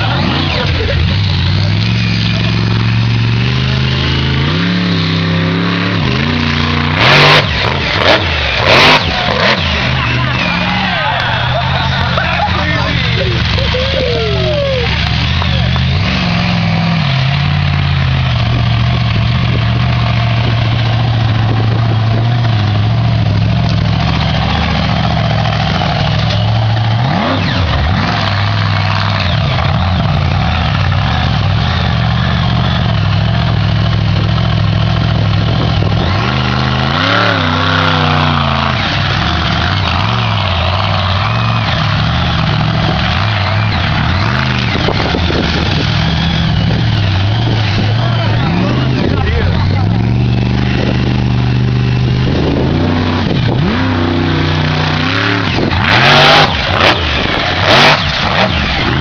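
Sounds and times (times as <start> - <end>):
truck engine droning and revving: 0.0 - 59.0.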